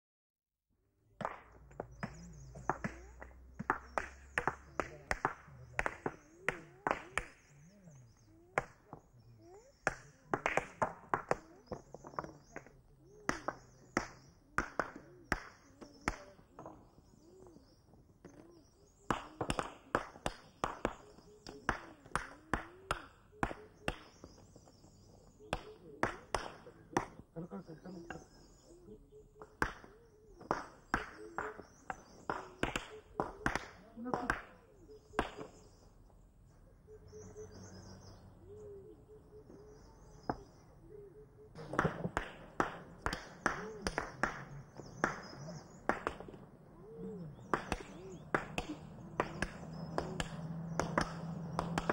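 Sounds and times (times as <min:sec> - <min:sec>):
bird hooting call: 0:01.7 - 0:33.9, 0:34.5 - 0:42.1, 0:43.3 - 0:51.9.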